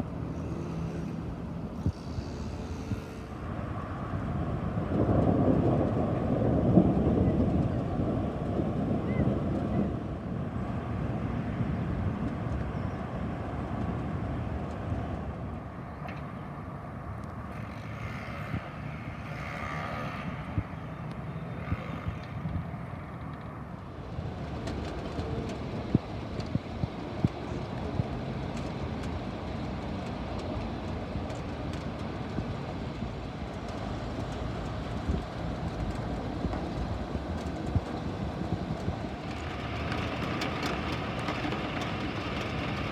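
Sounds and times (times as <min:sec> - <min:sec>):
city traffic rumble: 0:00.0 - 0:42.9.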